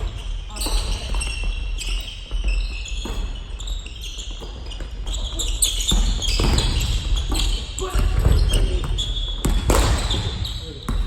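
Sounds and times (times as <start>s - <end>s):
sneaker squeaks: 0.0s - 11.0s.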